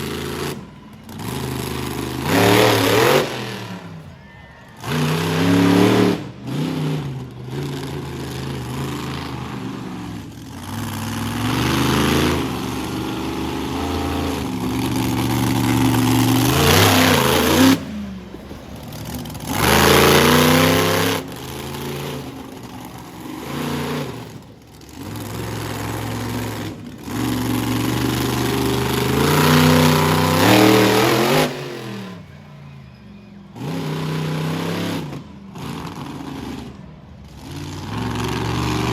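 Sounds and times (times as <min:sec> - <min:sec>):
monster truck engine revving: 0:00.0 - 0:38.9.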